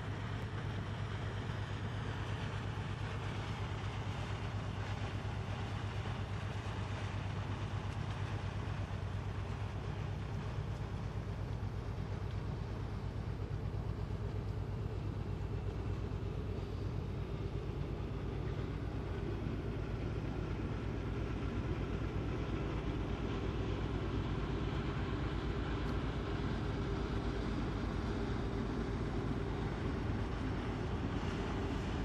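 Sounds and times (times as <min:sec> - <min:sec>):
ship diesel engines rumbling: 0:00.0 - 0:32.0.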